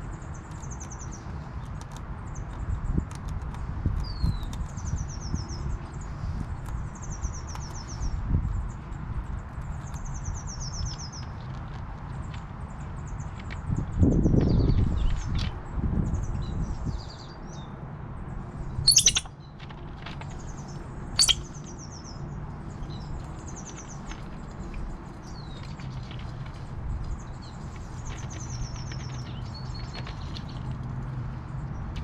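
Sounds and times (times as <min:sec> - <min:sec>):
small birds chirping and trilling: 0:00.0 - 0:11.5, 0:12.1 - 0:17.8, 0:18.5 - 0:19.6, 0:20.2 - 0:32.0.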